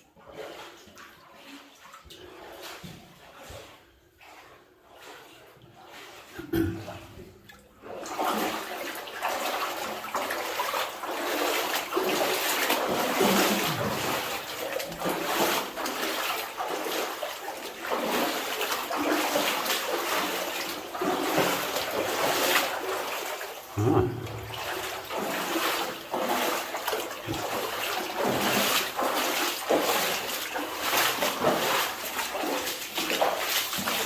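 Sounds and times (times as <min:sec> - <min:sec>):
water splashing from wading: 0:05.9 - 0:34.0.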